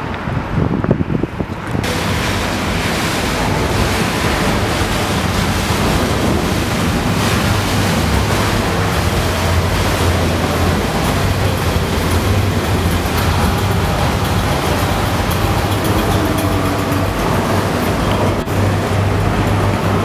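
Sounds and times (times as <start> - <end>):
water noise: 0.0 - 20.0
wind buffeting microphone: 0.0 - 20.0
low rumble: 1.8 - 20.0.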